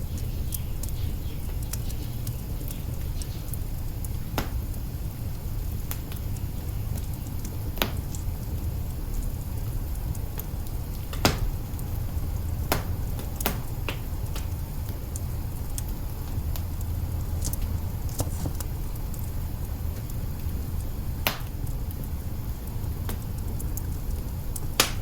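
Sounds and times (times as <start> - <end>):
low rumble of fire: 0.0 - 25.0
wood fire crackling and popping: 0.0 - 25.0.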